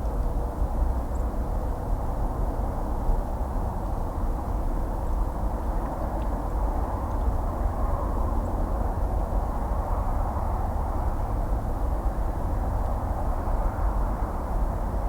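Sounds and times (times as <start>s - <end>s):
distant highway traffic rumble: 0.0s - 15.0s.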